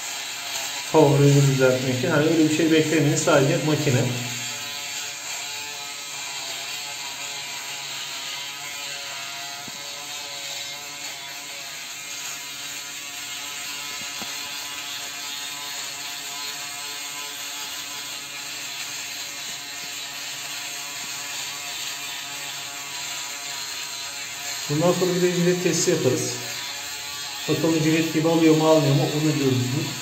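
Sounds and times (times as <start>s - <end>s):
electric shaver cutting stubble: 0.0s - 30.0s.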